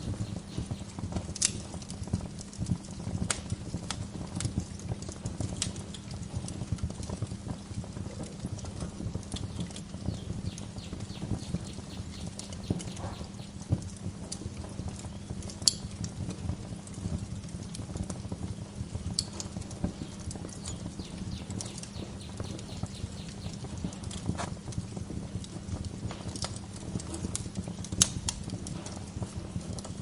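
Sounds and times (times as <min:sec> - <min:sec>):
low rumble of fire: 0:00.0 - 0:30.0
wood fire crackling: 0:00.0 - 0:30.0.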